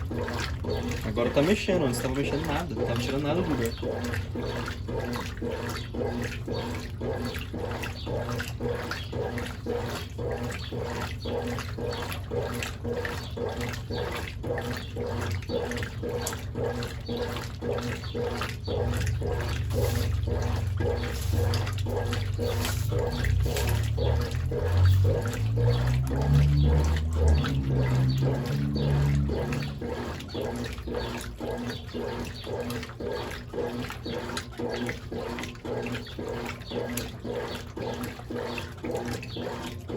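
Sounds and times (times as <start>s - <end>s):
washing machine motor hum: 0.0s - 39.9s
washing machine sloshing: 0.0s - 39.9s.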